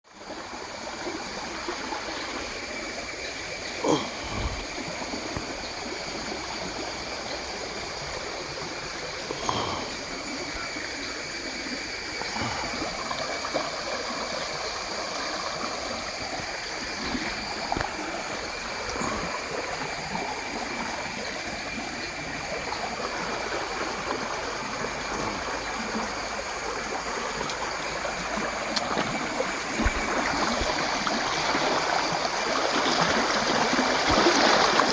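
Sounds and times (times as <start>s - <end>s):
stream flowing: 0.1s - 34.9s.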